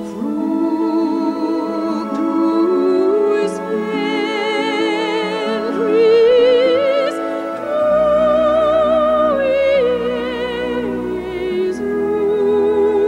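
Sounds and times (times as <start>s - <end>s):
operatic singing voice: 0.0s - 13.0s
sustained instrumental accompaniment: 0.0s - 13.0s.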